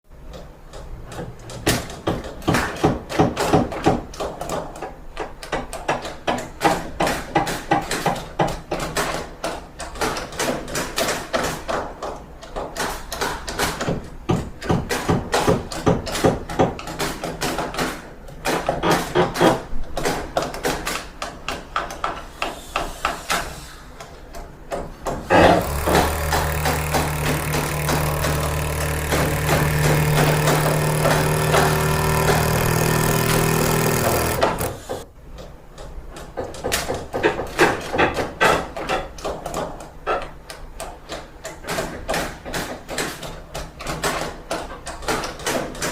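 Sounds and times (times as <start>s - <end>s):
hammering and knocking: 0.2s - 23.2s, 24.3s - 40.4s.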